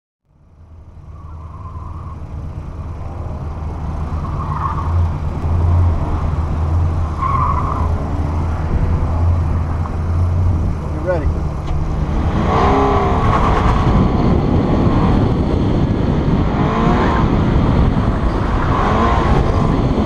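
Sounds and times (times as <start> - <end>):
car engine idling: 0.3 - 16.5.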